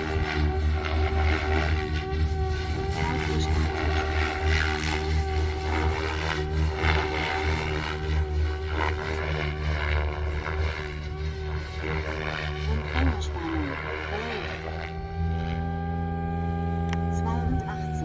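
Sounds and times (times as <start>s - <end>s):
rc helicopter motor and rotor whine: 0.0s - 18.0s.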